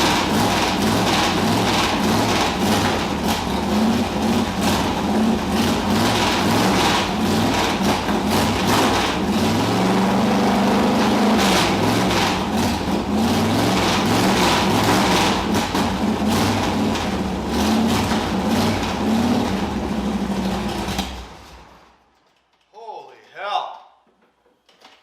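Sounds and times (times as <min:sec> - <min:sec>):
loud car engine revving: 0:00.0 - 0:21.6.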